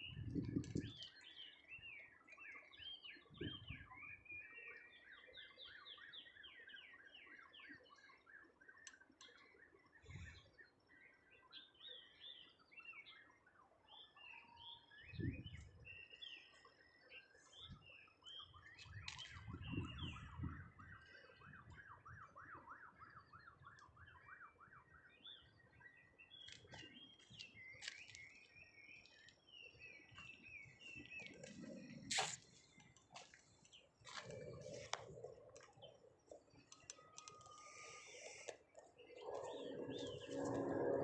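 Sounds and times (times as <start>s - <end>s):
birds chirping and singing: 0.0s - 41.0s.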